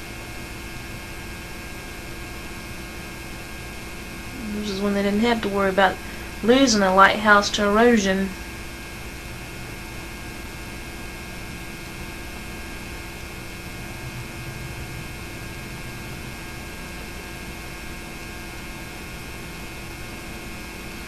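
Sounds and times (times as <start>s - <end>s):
electrical hum with fixed tones: 0.0s - 21.0s
tape hiss: 0.0s - 21.0s.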